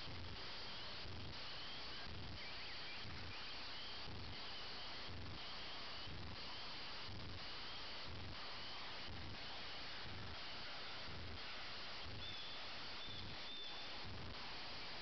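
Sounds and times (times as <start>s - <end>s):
steady hiss: 0.0s - 15.0s
faint high chirps: 0.6s - 15.0s.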